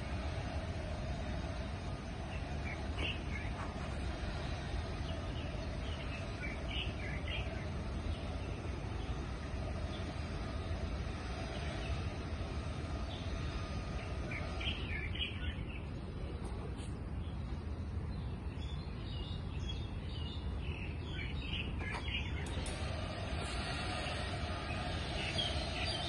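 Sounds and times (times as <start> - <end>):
birds chirping: 0.0 - 26.0
low background rumble: 0.0 - 26.0.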